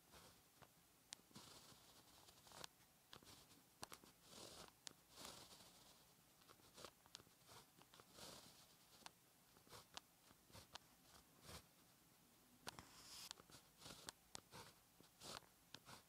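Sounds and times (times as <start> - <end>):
pen scratching on paper: 0.1 - 0.4, 1.3 - 11.7, 12.7 - 16.0.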